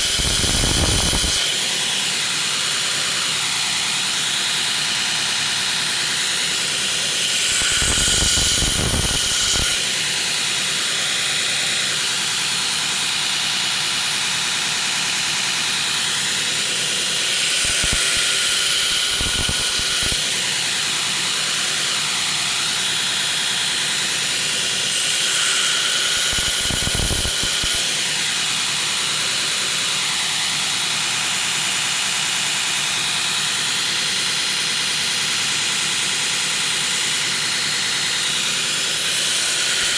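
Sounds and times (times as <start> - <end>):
belt grinder hissing: 0.0 - 39.9.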